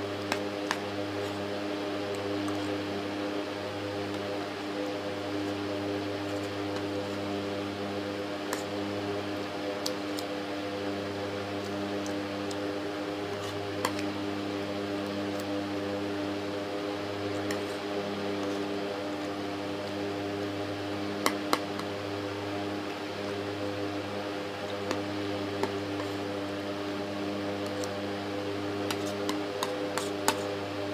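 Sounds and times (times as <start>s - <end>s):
electrical hum: 0.0s - 30.9s.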